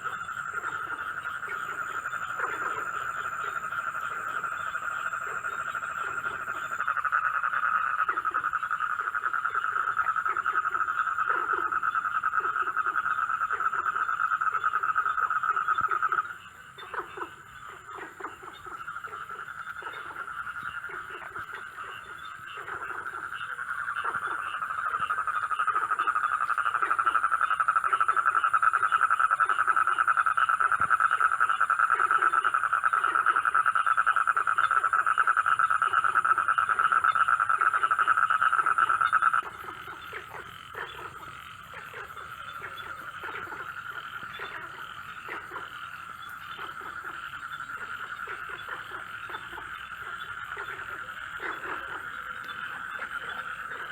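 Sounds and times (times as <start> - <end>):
frogs trilling: 0.0 - 53.9
low frog croaks: 0.0 - 53.9.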